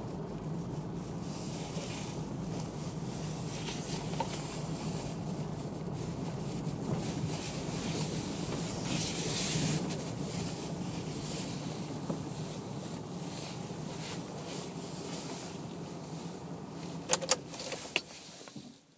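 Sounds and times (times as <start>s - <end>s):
vehicle engine hum: 0.0s - 18.9s.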